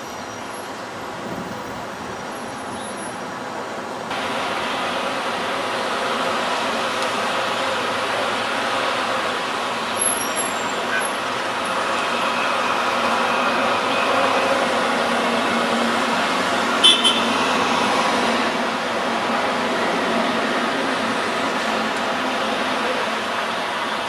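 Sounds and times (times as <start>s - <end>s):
city traffic hum: 0.0s - 24.0s.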